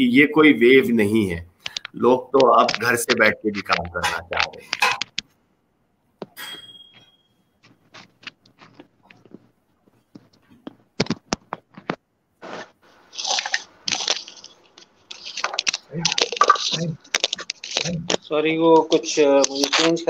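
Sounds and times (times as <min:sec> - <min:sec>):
microphone crackling and clicking: 0:01.5 - 0:05.4, 0:07.6 - 0:20.0.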